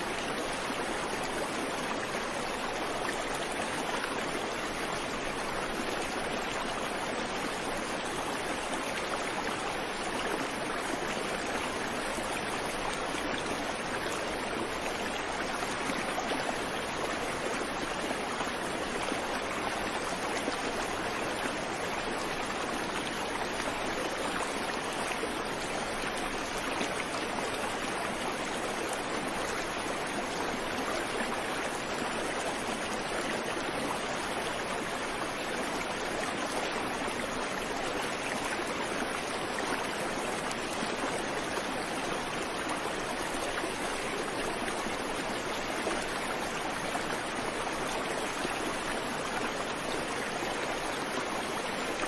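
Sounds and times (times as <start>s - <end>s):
creek water flowing over rocks: 0.0s - 52.0s.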